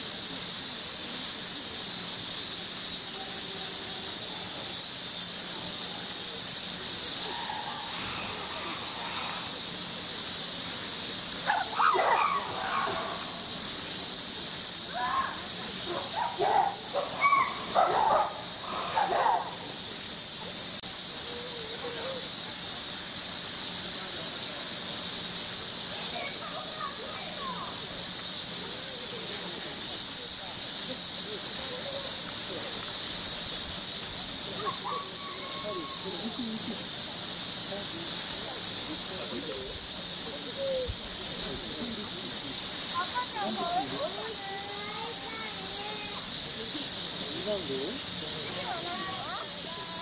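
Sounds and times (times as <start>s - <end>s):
cicadas droning: 0.0s - 50.0s
voices: 0.3s - 50.0s.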